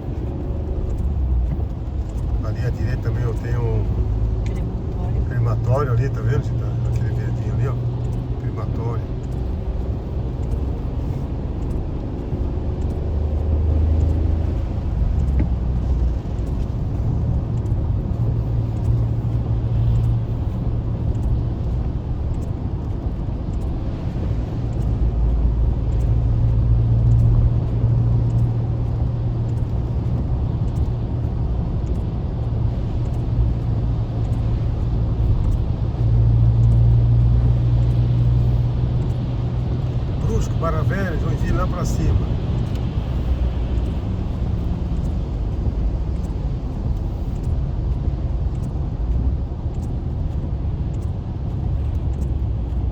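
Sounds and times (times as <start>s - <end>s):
engine and tyre rumble: 0.0s - 52.9s.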